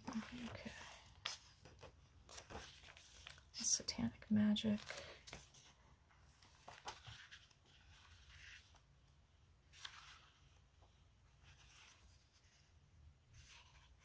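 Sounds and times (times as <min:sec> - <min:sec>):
book pages turning: 0:00.0 - 0:03.5, 0:04.6 - 0:14.0.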